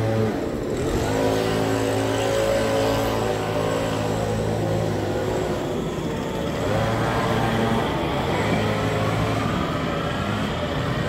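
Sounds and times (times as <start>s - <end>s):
electric train drive humming: 0.0s - 11.0s.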